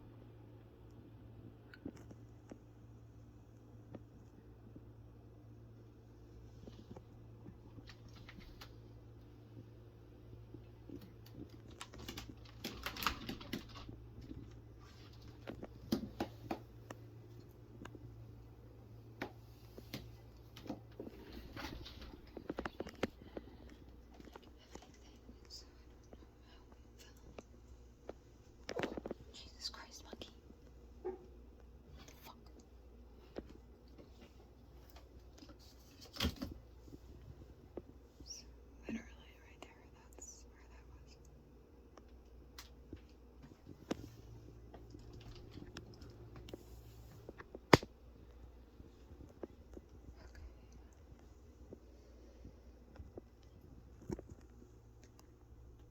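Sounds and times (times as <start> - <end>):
low electrical hum: 0.0 - 55.9.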